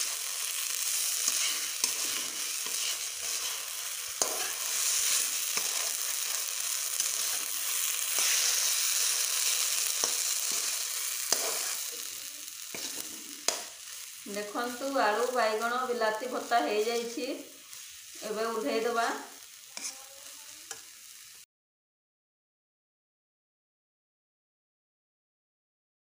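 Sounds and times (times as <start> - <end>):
vegetables sizzling in oil: 0.0 - 21.5.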